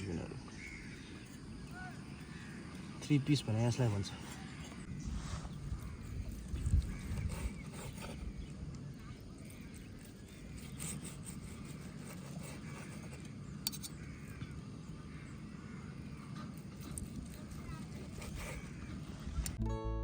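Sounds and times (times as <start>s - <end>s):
faint animal calls: 0.0s - 19.6s
low outdoor rumble: 0.0s - 19.6s.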